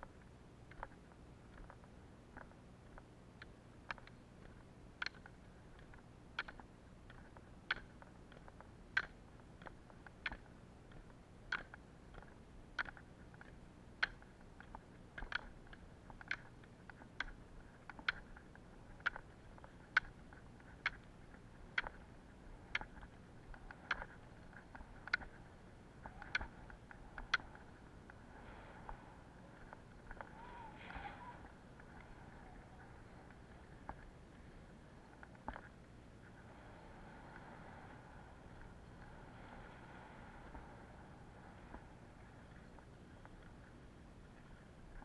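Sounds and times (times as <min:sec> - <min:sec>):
ski pole tips clicking on asphalt: 0:00.6 - 0:43.7.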